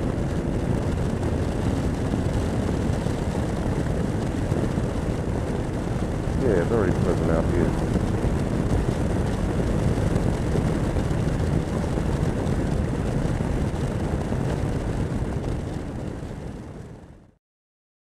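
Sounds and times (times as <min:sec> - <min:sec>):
motorcycle engine cruising: 0:00.0 - 0:17.2
wind rush on microphone: 0:00.0 - 0:17.3.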